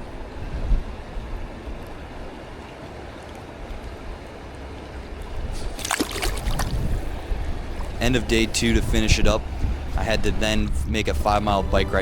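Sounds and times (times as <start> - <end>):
river water running and lapping: 0.0 - 12.0
wind rumble on microphone: 0.0 - 12.0.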